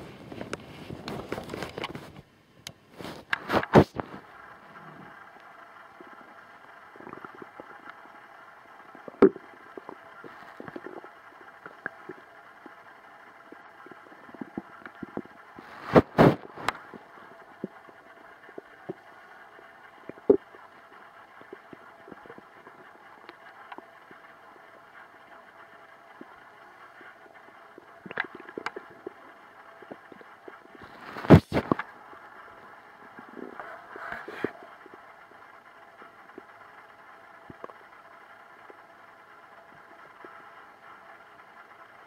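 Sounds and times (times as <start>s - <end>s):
stomach gurgling and rumbling: 0.0s - 2.2s, 2.9s - 36.7s, 37.4s - 38.0s
steady background hiss: 0.0s - 42.0s.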